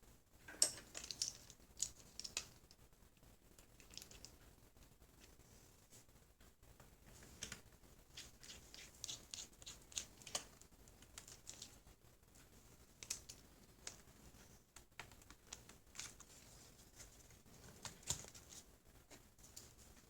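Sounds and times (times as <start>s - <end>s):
light clicks and small scratches: 0.4s - 20.0s.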